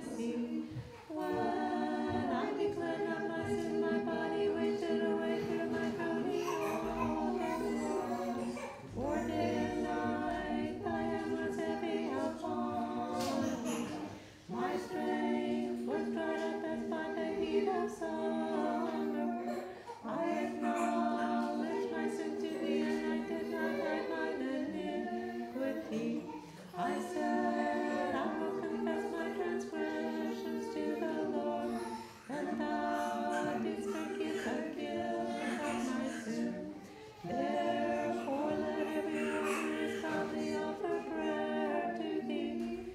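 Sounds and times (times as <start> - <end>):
voices chanting a hymn: 0.0 - 42.9.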